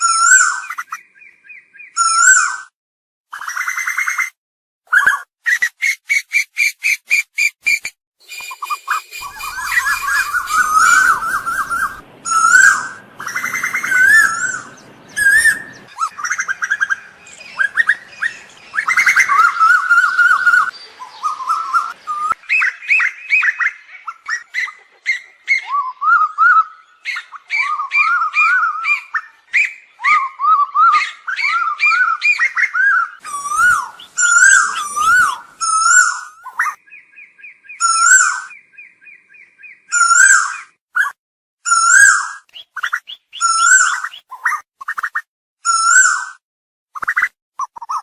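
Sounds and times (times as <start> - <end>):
birds calling: 4.9 - 46.3.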